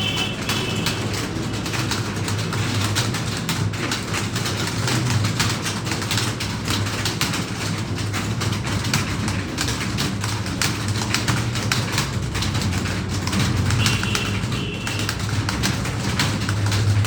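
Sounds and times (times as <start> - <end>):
keyboards clattering: 0.0 - 17.0.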